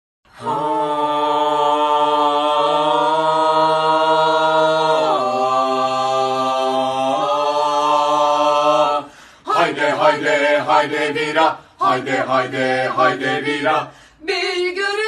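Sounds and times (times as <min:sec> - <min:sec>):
a cappella voices sustained notes: 0:00.3 - 0:15.0.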